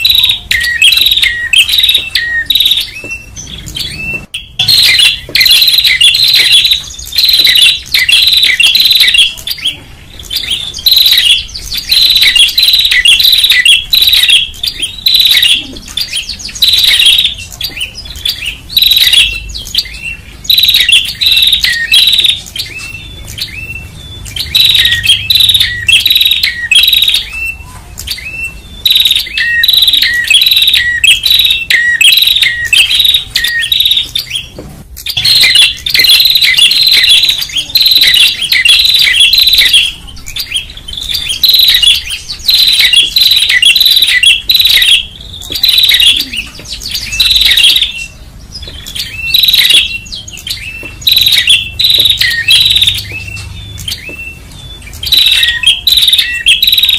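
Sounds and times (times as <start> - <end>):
bird chattering: 0.0 - 56.9.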